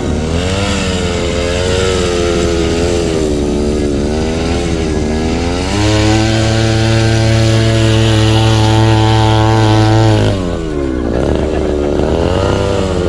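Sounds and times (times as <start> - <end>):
small motorcycle engine revving: 0.0 - 13.0.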